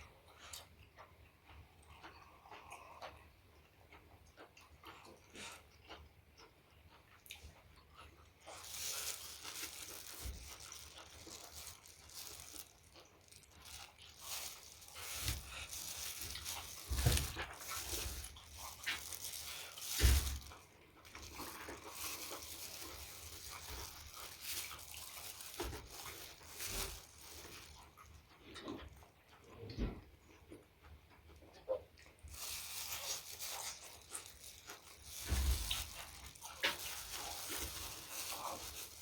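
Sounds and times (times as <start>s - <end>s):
wet chewing and crunching: 0.0s - 39.0s.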